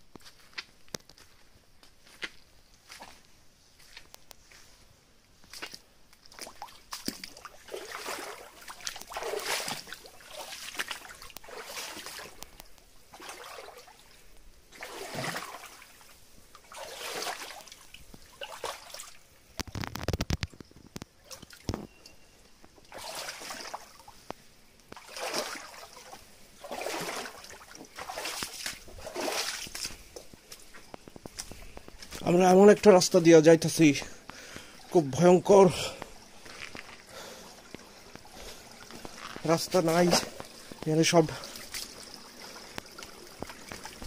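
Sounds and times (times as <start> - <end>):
footsteps splashing through stream: 0.2 - 4.8, 5.4 - 20.3, 21.1 - 22.0, 22.7 - 44.0.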